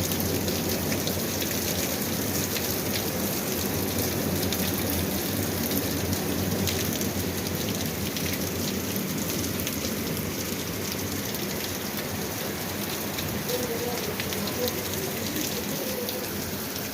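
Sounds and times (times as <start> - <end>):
heavy rain falling: 0.0 - 16.9
raindrops ticking on a surface: 0.0 - 16.9.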